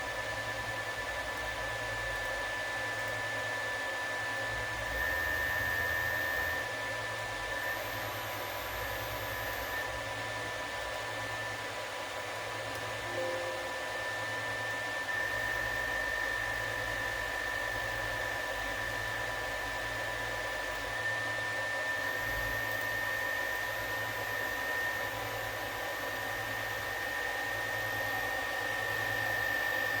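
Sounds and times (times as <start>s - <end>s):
machine whir with high whine: 0.0s - 30.0s.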